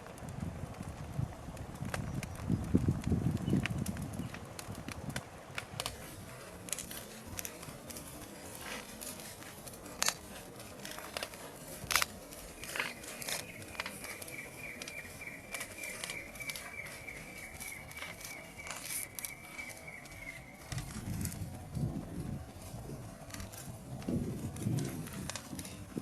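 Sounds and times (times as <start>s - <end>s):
sharp pops from fire: 0.0s - 21.8s
burning timber crackling: 0.0s - 26.0s.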